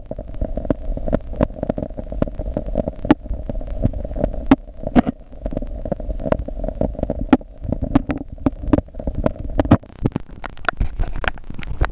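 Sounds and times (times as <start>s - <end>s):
rain drops patter underwater: 0.0s - 11.9s
steady low rumble: 0.0s - 11.9s.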